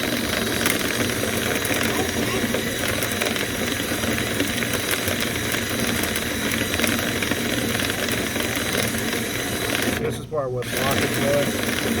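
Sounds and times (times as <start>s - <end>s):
drill spinning brush in duct: 0.0s - 12.0s.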